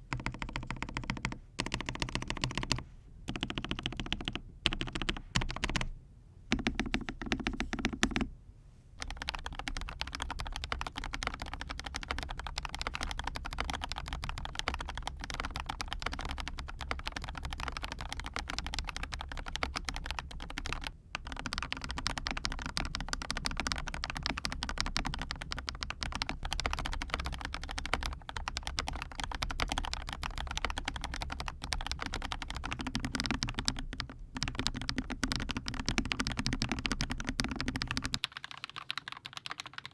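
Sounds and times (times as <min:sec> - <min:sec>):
mechanical keyboard typing: 0:00.0 - 0:05.9, 0:06.5 - 0:08.3, 0:09.0 - 0:39.9.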